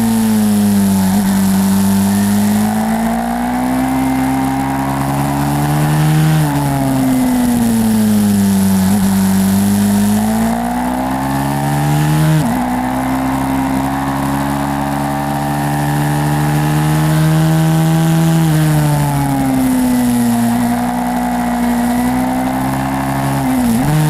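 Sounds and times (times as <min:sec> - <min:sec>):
small motorcycle engine revving: 0:00.0 - 0:24.0.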